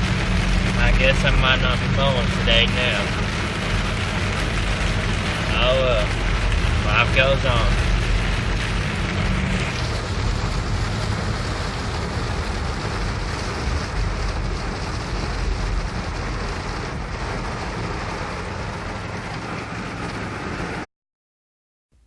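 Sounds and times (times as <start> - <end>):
rain falling: 0.0 - 20.9.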